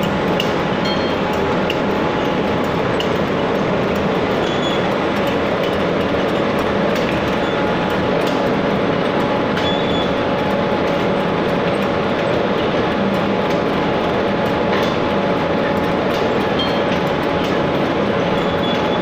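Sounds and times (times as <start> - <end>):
bottle-filling machine clatter and hum: 0.0 - 19.0.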